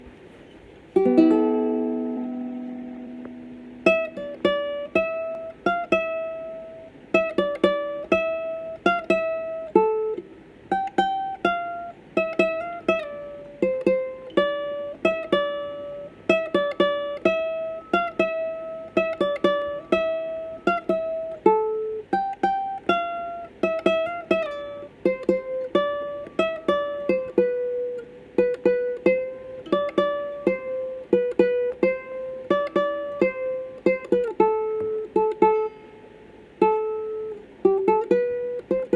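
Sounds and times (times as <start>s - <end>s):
ukulele plucked melody: 0.0s - 38.9s.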